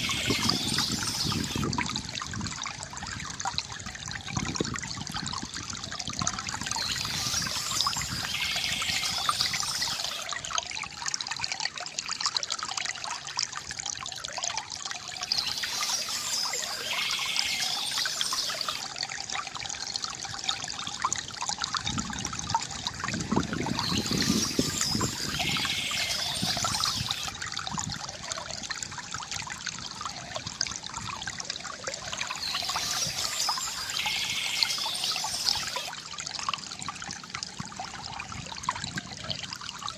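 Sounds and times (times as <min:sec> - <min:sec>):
water trickling from fountain: 0:00.0 - 0:39.9.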